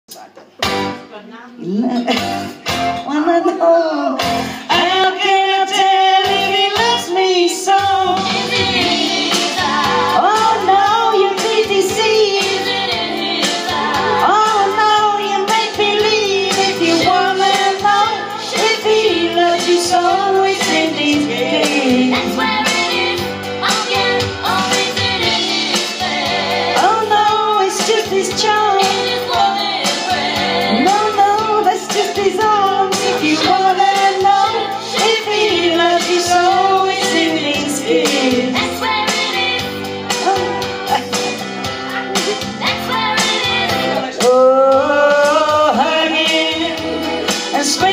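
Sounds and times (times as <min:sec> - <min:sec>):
recorded backing track: 0:00.1 - 0:47.9
women singing karaoke: 0:01.6 - 0:47.9.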